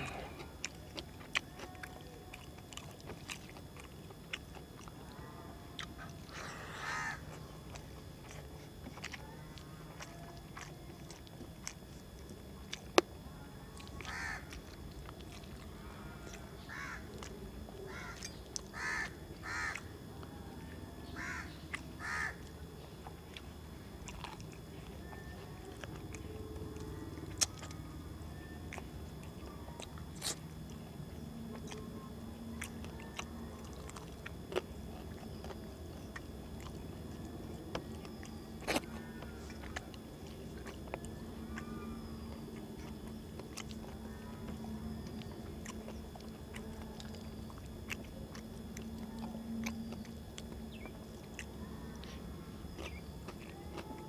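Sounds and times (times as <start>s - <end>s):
chewing: 0.0s - 54.0s
faint steady hum: 0.0s - 54.0s.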